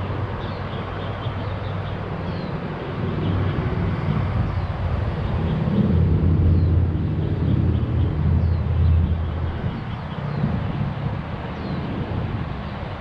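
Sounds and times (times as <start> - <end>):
traffic rumble overhead: 0.0 - 13.0.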